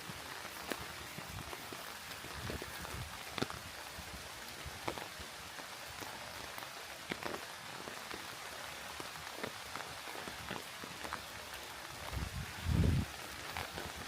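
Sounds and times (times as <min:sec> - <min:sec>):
rain hissing: 0:00.0 - 0:14.0
raindrops striking close by: 0:00.0 - 0:14.0.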